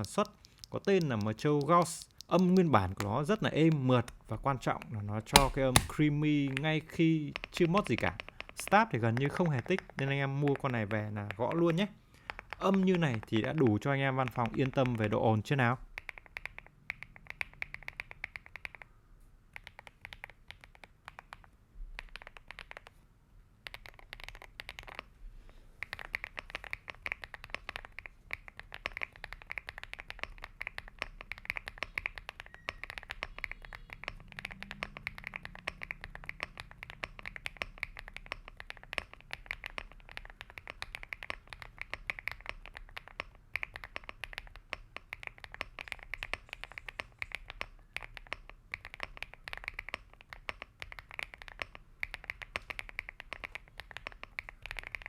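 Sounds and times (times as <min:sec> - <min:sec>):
soft mechanical keyboard typing: 0:00.0 - 0:18.9, 0:19.5 - 0:23.0, 0:23.6 - 0:25.1, 0:25.8 - 0:55.0.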